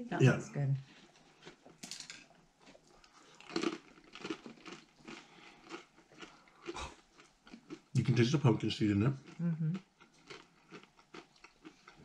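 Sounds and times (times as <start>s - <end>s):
person chewing crunchy snack: 1.0s - 8.2s, 9.2s - 12.0s.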